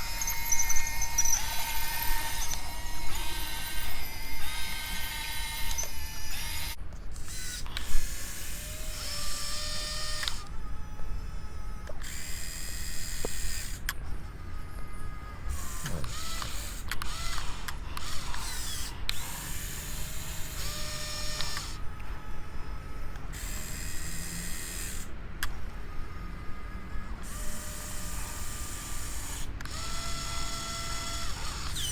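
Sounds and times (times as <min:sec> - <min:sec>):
small electric motors whining: 0:00.0 - 0:31.9.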